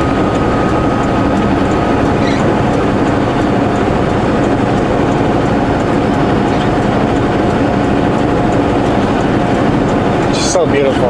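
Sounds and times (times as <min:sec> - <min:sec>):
road noise: 0:00.0 - 0:11.0
truck engine droning: 0:00.0 - 0:11.0.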